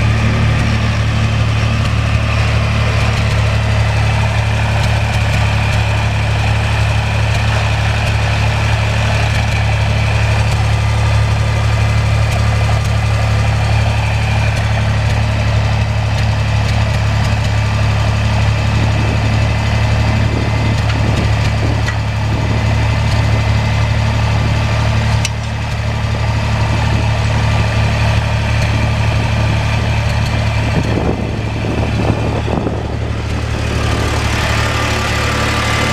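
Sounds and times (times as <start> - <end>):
tractor engine idling: 0.0 - 35.9.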